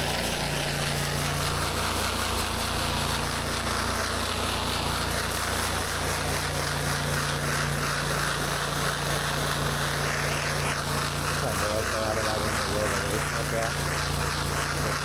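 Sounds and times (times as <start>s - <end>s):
pressure washer engine running: 0.0s - 15.0s
water spraying hiss: 0.0s - 15.0s.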